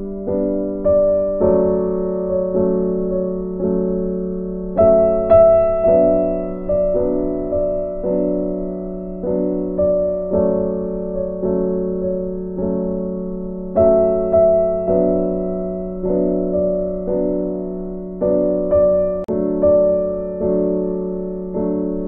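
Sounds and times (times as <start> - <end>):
slow gentle electric piano: 0.0 - 22.0.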